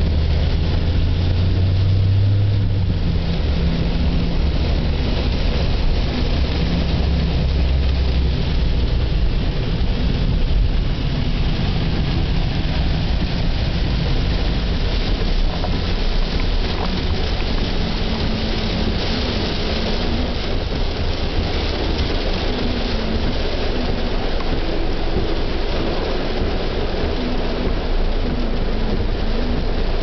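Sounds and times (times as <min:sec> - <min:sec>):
heavy rain on car roof: 0:00.0 - 0:30.0
low rumble from car: 0:00.0 - 0:30.0.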